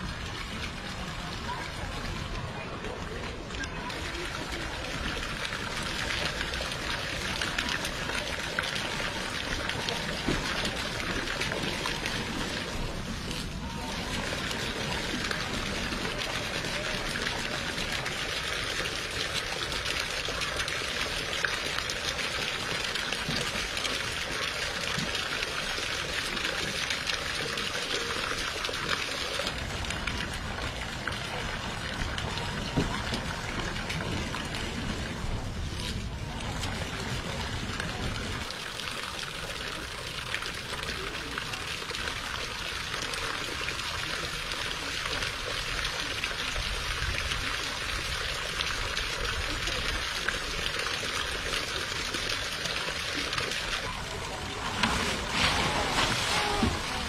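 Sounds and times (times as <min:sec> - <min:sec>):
water splashing: 0:00.0 - 0:43.8, 0:49.5 - 0:57.0
water rushing: 0:00.0 - 0:57.0.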